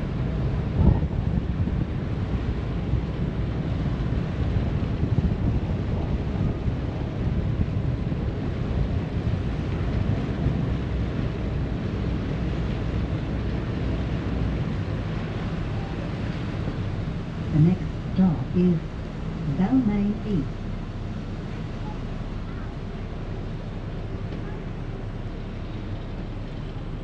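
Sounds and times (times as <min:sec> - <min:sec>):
water rushing past boat: 0:00.0 - 0:27.0
wind noise on microphone: 0:00.0 - 0:27.0.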